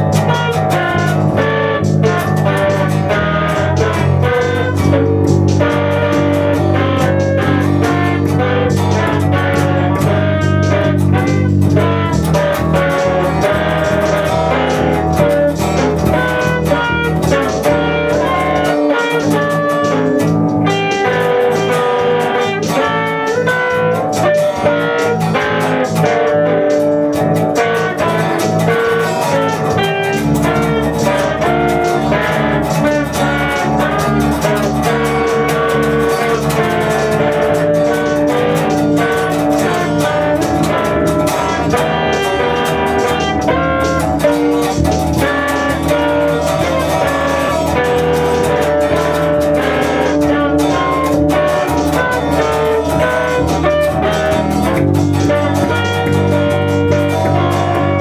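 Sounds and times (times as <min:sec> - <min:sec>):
live band music led by guitar: 0:00.0 - 0:58.0.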